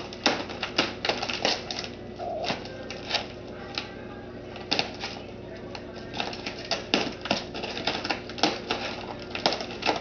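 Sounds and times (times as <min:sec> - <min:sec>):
plastic bag crackling: 0:00.0 - 0:10.0.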